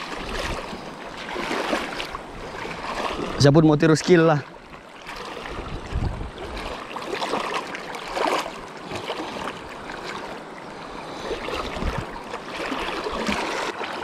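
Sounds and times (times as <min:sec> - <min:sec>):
river water running: 0:00.0 - 0:14.0
water splashing: 0:00.0 - 0:14.0.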